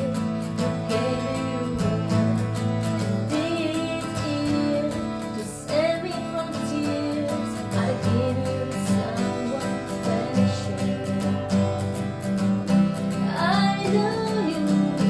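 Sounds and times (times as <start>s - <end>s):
person singing: 0.0s - 12.2s, 13.2s - 15.0s
acoustic guitar playing: 0.0s - 15.0s.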